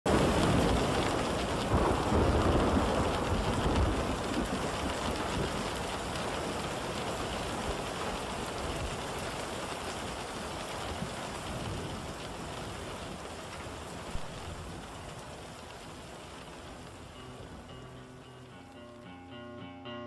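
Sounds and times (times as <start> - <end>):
steady rain falling: 0.0 - 19.2.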